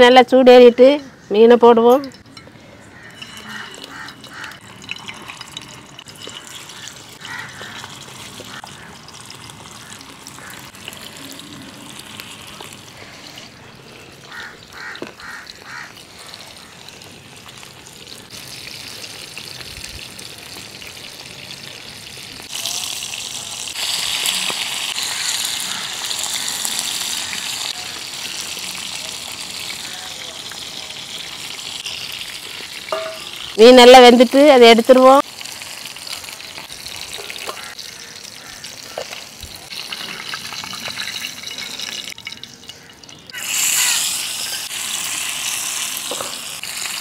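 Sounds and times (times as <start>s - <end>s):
fish sizzling in hot oil: 2.9s - 47.0s.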